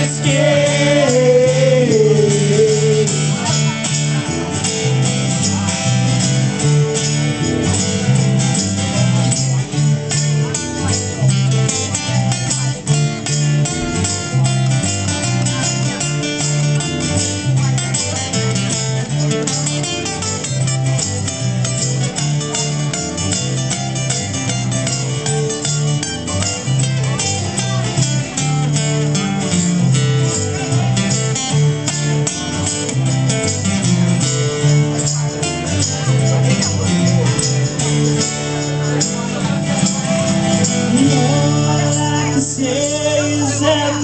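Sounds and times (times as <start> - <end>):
live band playing instrumental: 0.0 - 44.0.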